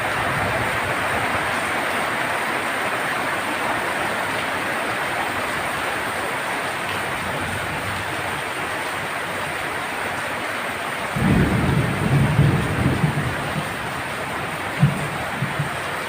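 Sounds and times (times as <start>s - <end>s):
heavy rain on a tin roof: 0.0s - 16.0s.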